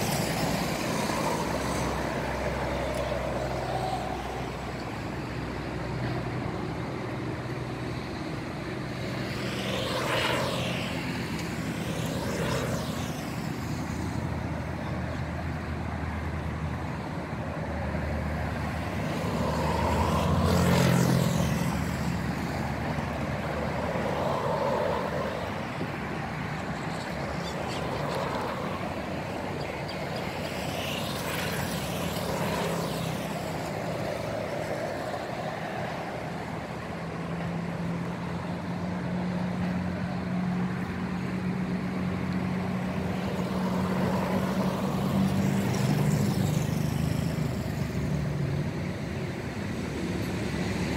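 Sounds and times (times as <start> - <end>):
vehicles passing: 0.0 - 50.9.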